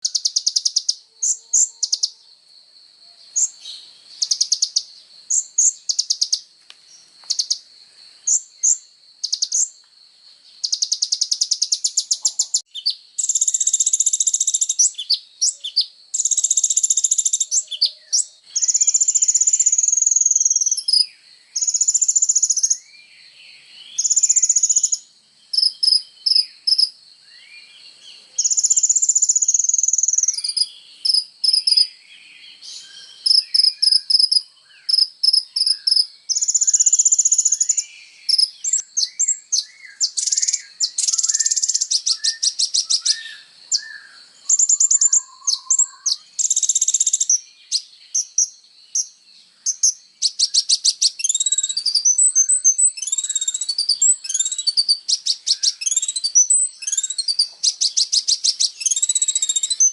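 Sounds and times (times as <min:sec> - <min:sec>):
bird trilling and chipping: 0:00.0 - 0:02.2, 0:03.3 - 0:09.8, 0:10.6 - 0:23.0, 0:23.8 - 0:32.0, 0:32.6 - 0:59.9.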